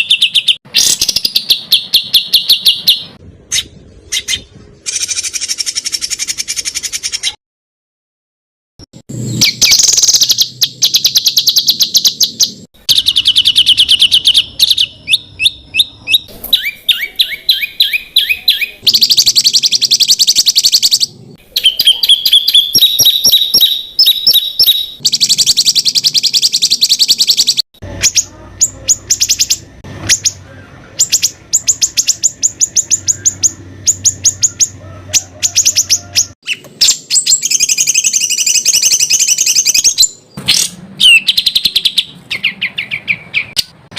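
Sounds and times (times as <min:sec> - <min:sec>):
songbird singing rapid notes: 0:00.0 - 0:07.4, 0:09.1 - 0:43.9.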